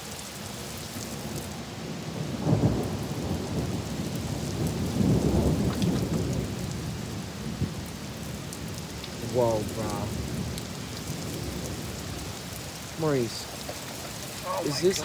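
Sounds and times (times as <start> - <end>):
steady rain: 0.0 - 15.0
thunder rumbling: 2.2 - 15.0.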